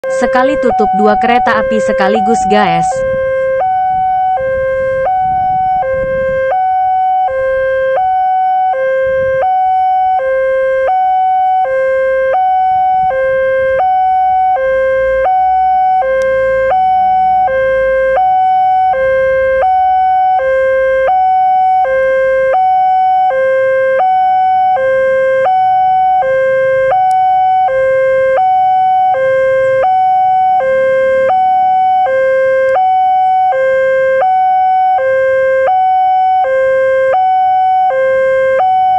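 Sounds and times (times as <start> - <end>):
two-tone crossing alarm chime: 0.0 - 38.9.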